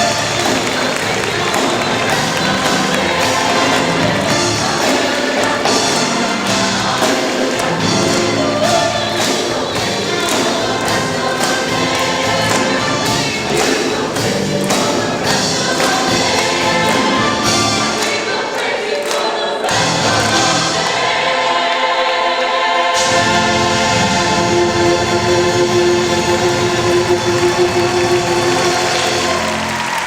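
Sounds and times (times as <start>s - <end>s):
band playing steady beat: 0.0s - 30.0s
gospel choir singing: 0.0s - 30.0s.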